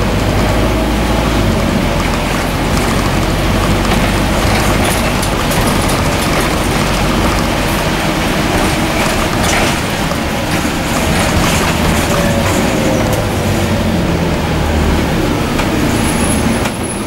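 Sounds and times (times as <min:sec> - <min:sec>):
diesel bus engine running: 0:00.0 - 0:17.0
road and tyre noise: 0:00.0 - 0:17.0.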